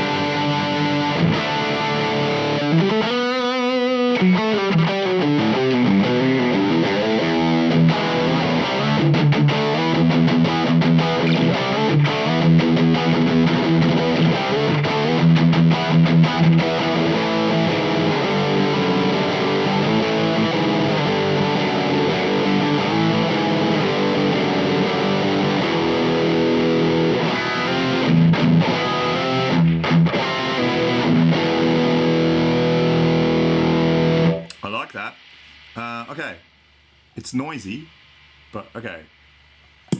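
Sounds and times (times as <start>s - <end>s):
distorted electric guitar chords: 0.0s - 34.6s.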